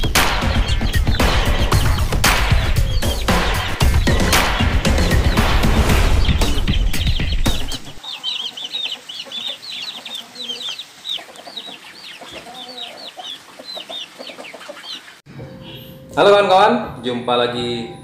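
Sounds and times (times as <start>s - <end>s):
chickens clucking: 0.0s - 16.0s
chickens peeping: 0.0s - 16.1s.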